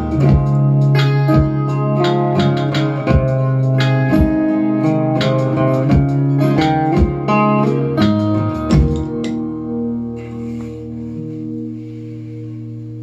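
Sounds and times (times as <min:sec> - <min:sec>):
acoustic guitar fingerpicking: 0:00.0 - 0:12.7.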